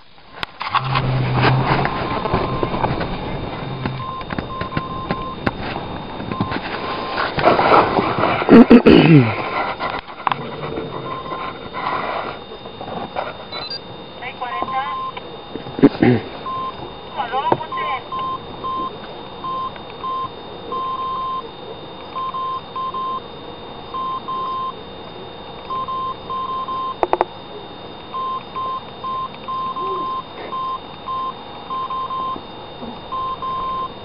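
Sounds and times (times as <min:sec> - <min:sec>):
electronic beep pulses: 0:00.0 - 0:34.0
faint steady high tone: 0:00.0 - 0:34.0.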